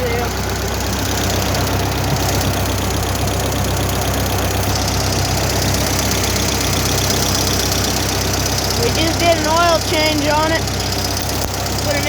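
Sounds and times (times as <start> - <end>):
welder gasoline engine running: 0.0 - 12.0.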